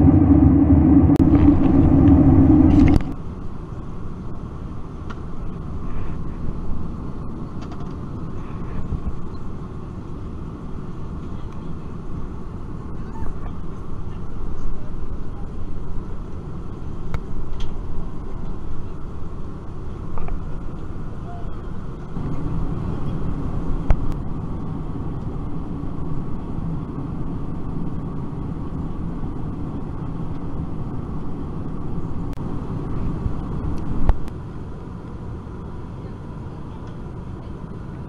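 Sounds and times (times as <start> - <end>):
airliner cabin rumble: 0.0 - 38.0.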